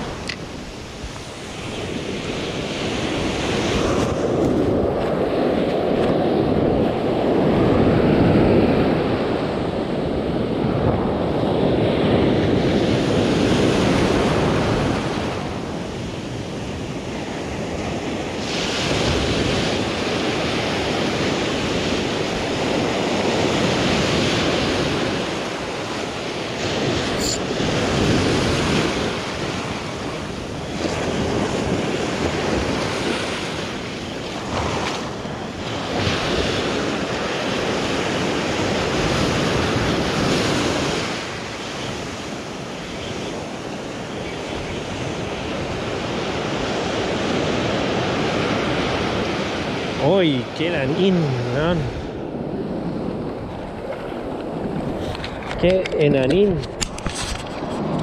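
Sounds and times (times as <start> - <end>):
surf breaking on sand: 0.0 - 58.0
wind buffeting microphone: 0.0 - 58.0.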